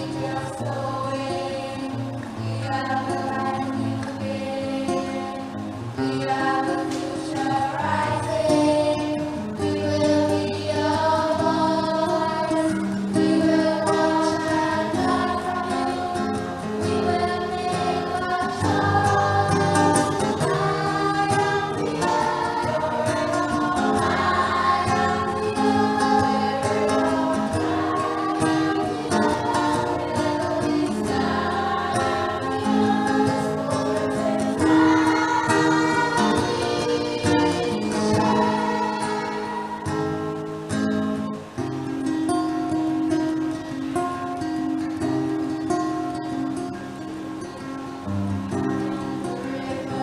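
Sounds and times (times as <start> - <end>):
choir singing: 0.0 - 41.0, 48.6 - 50.0.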